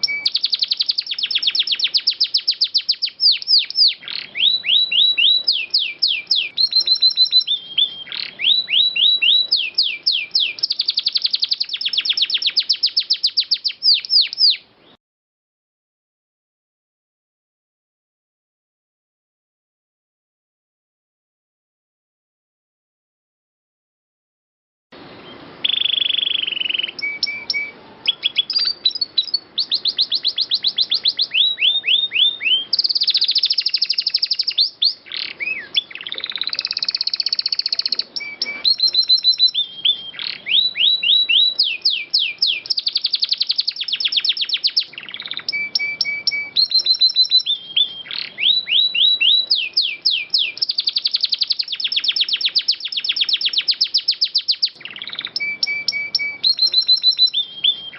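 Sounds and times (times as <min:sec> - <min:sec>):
canary singing trills: 0:00.0 - 0:15.0, 0:25.1 - 0:57.9.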